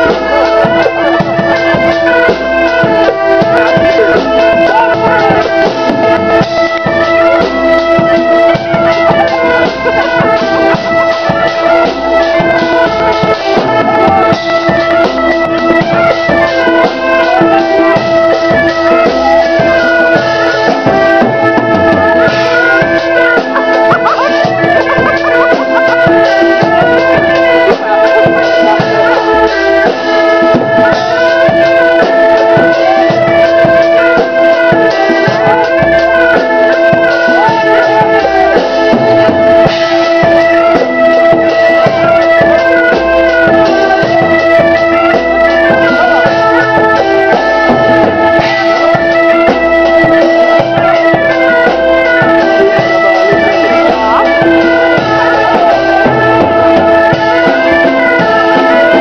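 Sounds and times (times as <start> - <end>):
drum beat: 0.0 - 59.0
medieval dance music with drone: 0.0 - 59.0.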